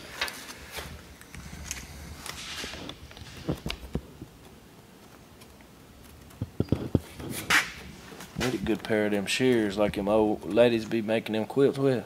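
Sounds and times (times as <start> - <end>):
carpet rustling and clicks: 0.0 - 11.0.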